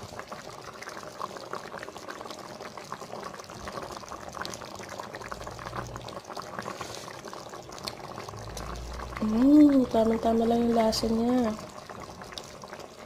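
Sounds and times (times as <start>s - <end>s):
sauce bubbling in a pot: 0.0s - 13.0s.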